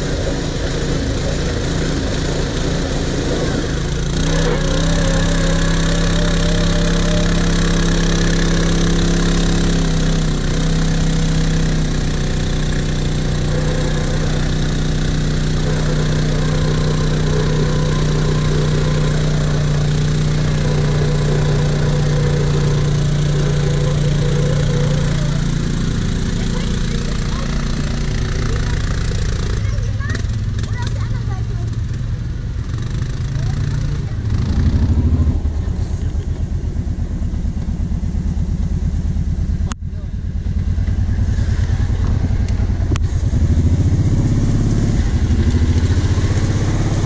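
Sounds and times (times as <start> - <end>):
atv engine idling: 0.0 - 47.0.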